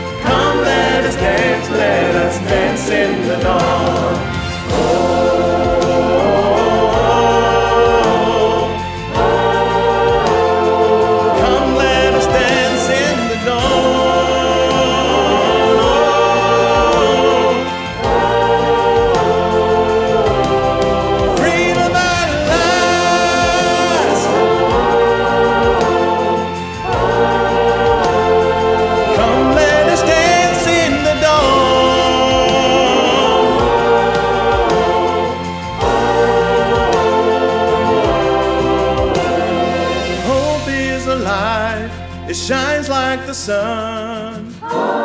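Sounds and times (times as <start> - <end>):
mixed choir singing: 0.0 - 41.9, 44.5 - 45.0
instrumental accompaniment with bass: 0.0 - 45.0.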